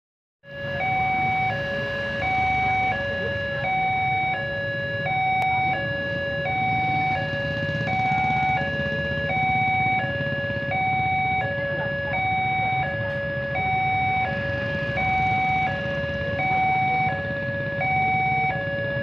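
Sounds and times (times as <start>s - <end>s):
two-tone crossing warning alarm: 0.4s - 19.0s
motorcycle engines idling: 0.7s - 19.0s.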